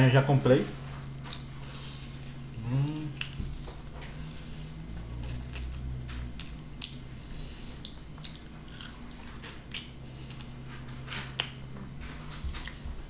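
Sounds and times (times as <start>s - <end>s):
low steady hum: 0.0s - 13.0s
person chewing food: 1.1s - 13.0s.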